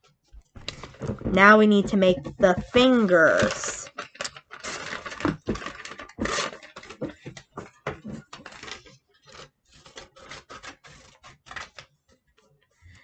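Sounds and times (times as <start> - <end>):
craft materials rustling and scraping: 0.4 - 11.8.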